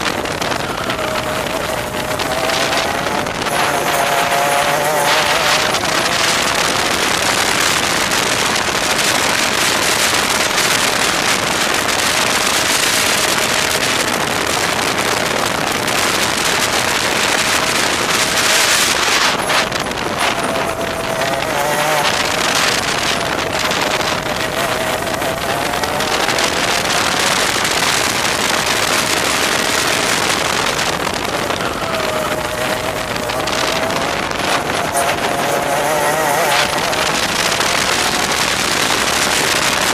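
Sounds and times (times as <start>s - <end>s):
kart engine revving: 0.0s - 39.9s
wind noise on microphone: 0.0s - 39.9s.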